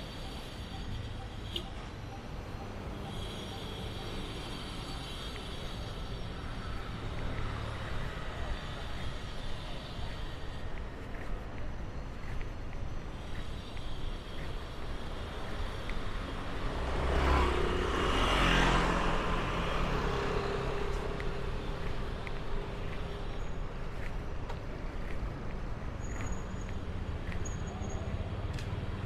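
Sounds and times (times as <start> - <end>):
traffic hum: 0.0 - 29.0
vehicle passing: 3.3 - 11.3, 12.1 - 27.7.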